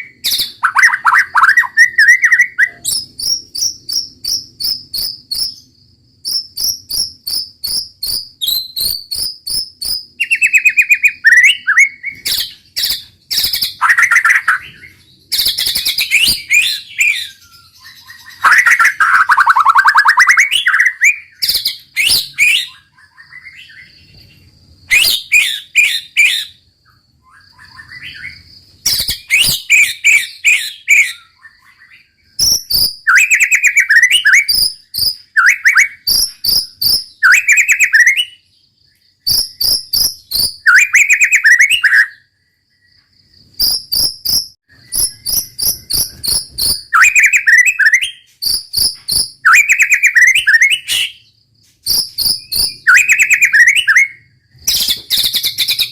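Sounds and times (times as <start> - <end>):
bird singing varied phrases: 0.0 - 55.9
faint high insect trill: 0.0 - 55.9.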